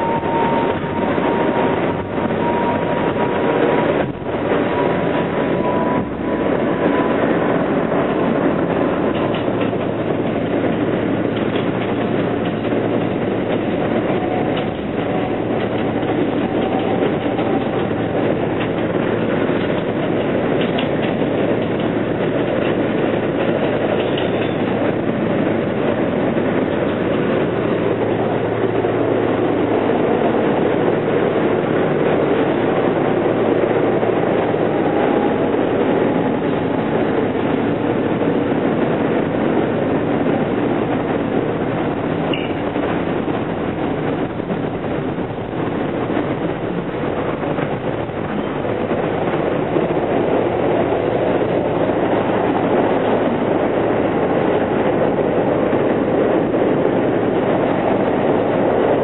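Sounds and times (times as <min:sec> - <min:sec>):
subway car wheels rumbling on rail: 0:00.0 - 0:59.0
wheels clicking over rail joints: 0:00.0 - 0:59.0.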